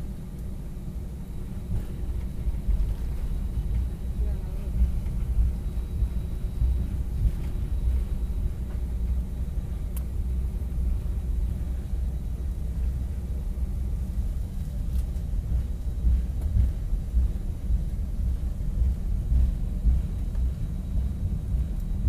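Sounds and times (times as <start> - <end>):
aircraft engines idling: 0.0 - 22.0
wheels rolling on taxiway: 0.0 - 22.0.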